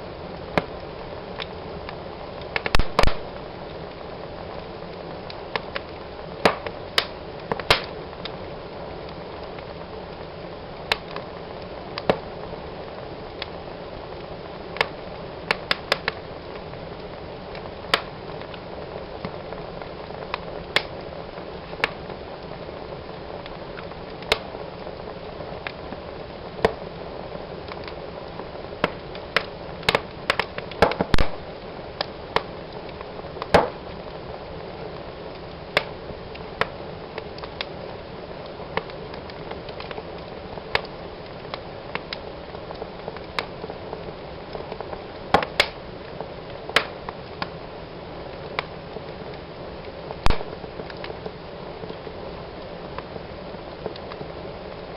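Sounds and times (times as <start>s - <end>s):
hiss of flames: 0.0s - 54.9s
logs popping and crackling: 0.0s - 54.9s.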